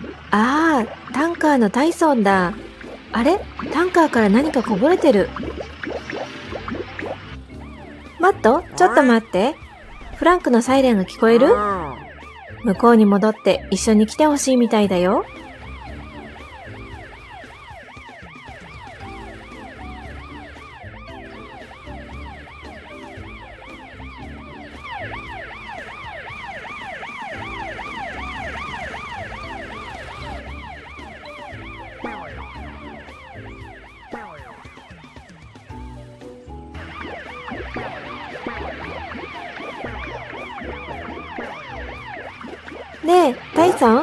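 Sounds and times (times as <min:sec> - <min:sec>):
background music with bass line: 0:00.0 - 0:44.0
cartoon siren wailing: 0:06.4 - 0:35.9, 0:36.7 - 0:44.0.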